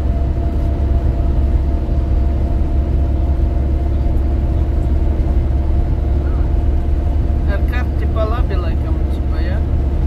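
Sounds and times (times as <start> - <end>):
car engine rumble: 0.0 - 10.0.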